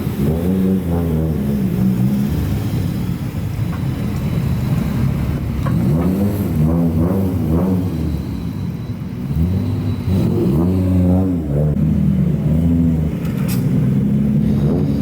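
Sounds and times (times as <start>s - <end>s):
car engine revving: 0.0s - 3.5s, 4.6s - 15.0s.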